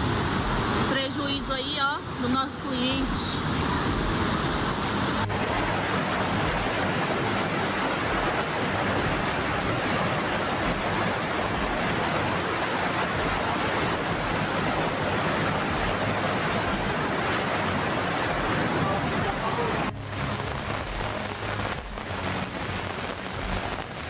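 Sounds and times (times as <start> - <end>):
floodwater rushing: 3.4 - 24.0.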